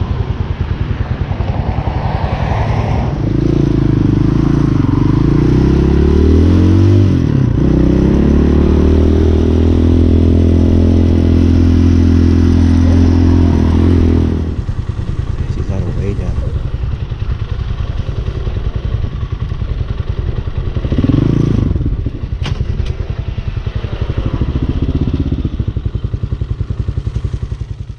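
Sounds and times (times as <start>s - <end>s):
motorcycle engine idling and revving: 0.0s - 27.9s.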